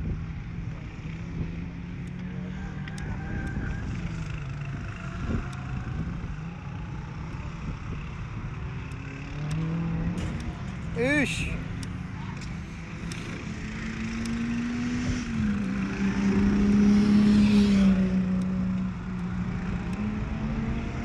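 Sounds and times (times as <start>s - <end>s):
distant race car engines revving: 0.0s - 21.0s.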